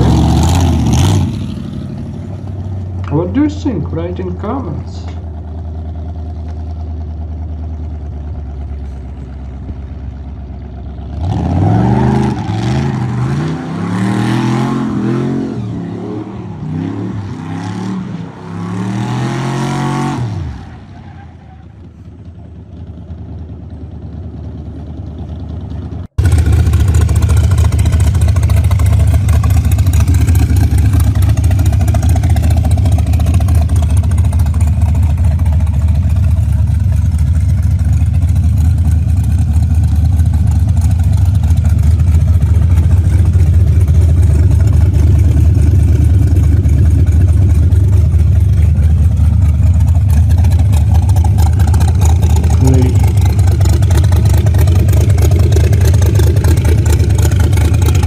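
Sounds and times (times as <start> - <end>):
hot rod engine revving: 0.0 - 5.2, 10.9 - 21.1, 26.2 - 58.0.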